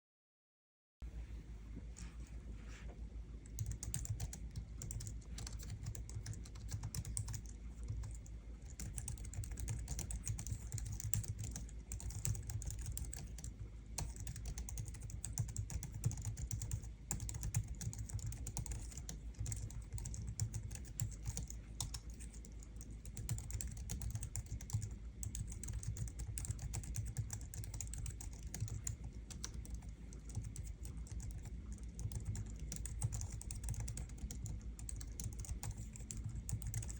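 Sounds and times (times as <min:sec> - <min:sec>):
keyboard typing: 0:03.4 - 0:36.9.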